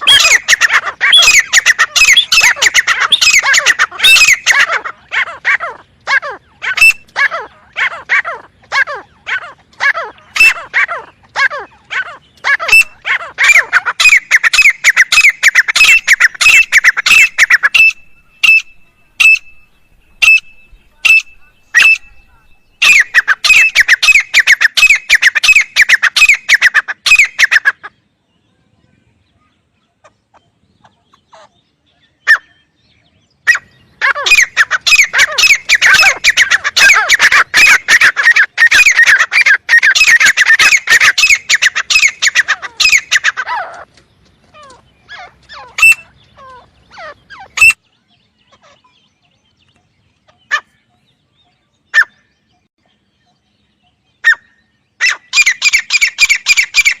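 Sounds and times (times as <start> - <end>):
francolin calling: 0.0 - 27.9, 30.4 - 43.8, 44.6 - 49.0, 51.7 - 57.0.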